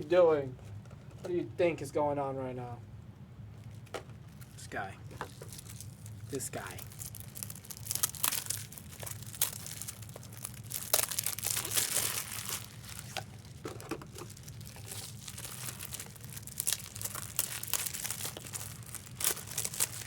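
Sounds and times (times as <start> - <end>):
card pack wrappers being torn: 3.7 - 20.0.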